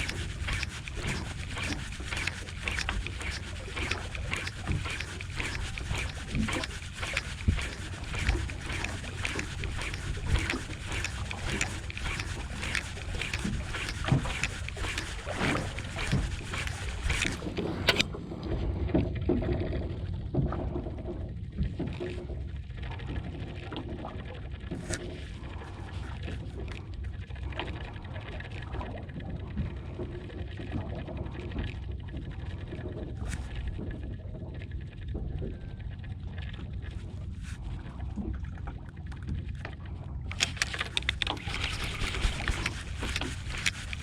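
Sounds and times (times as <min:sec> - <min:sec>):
water slapping against hull: 0:00.0 - 0:44.0
wind: 0:00.0 - 0:44.0.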